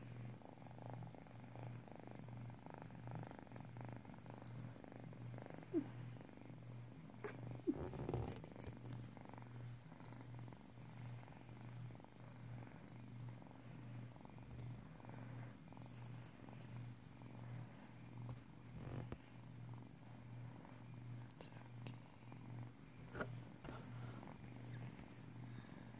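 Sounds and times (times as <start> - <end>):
kitten purring: 0.0 - 25.9.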